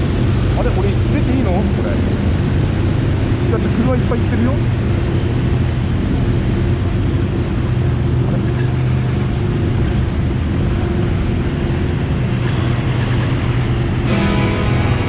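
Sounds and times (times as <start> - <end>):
car engine hum inside cabin: 0.0 - 15.0.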